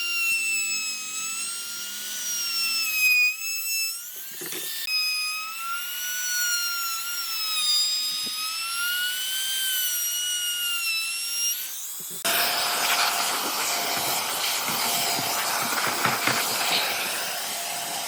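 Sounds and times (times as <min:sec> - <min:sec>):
power tool motor whining: 0:00.0 - 0:18.0.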